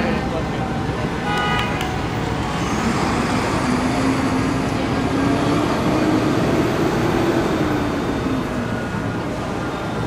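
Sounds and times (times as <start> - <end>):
city street traffic: 0.0 - 10.0
heavy vehicle engine droning: 0.0 - 10.0.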